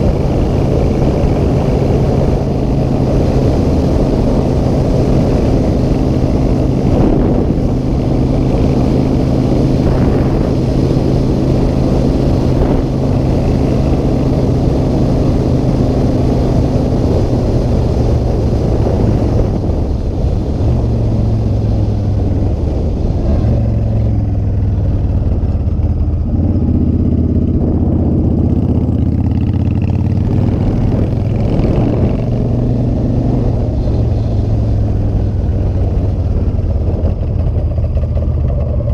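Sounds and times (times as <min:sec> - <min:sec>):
low rumble: 0:00.0 - 0:38.9
motorcycle engine running: 0:00.0 - 0:38.9.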